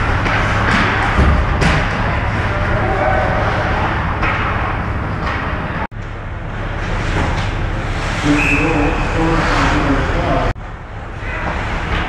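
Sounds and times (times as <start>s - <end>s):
ice hockey game rumble: 0.0s - 12.0s.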